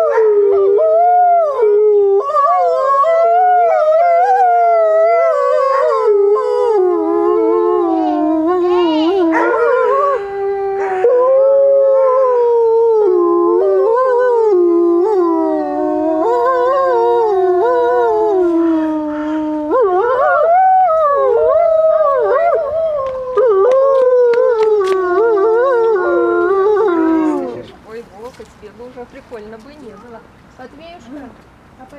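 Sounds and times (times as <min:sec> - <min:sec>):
wolves howling in chorus: 0:00.0 - 0:28.0.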